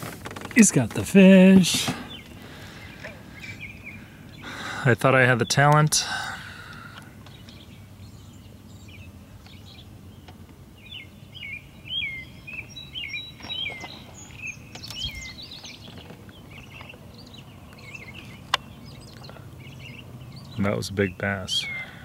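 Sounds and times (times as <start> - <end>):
songbirds chirping: 0.0 - 22.0
steady low hum: 0.0 - 22.0.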